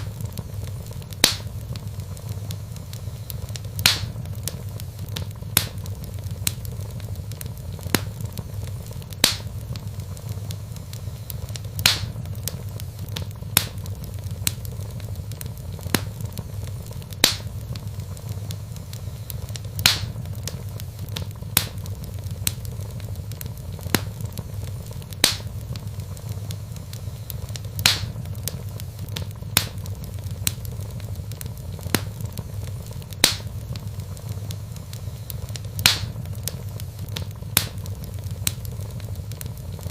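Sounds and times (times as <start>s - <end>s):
fire crackling and popping: 0.0s - 39.9s
fire low rumble: 0.0s - 39.9s.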